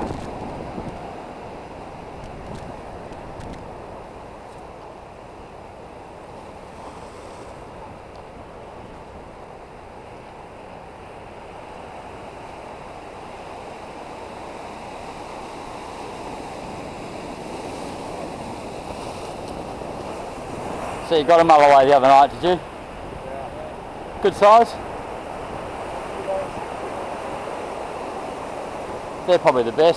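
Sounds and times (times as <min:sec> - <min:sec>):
surf washing against rocky shore: 0:00.0 - 0:29.9.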